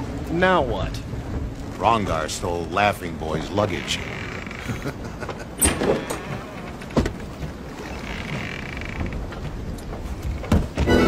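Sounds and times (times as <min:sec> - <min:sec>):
wind and sea hiss: 0:00.0 - 0:10.4.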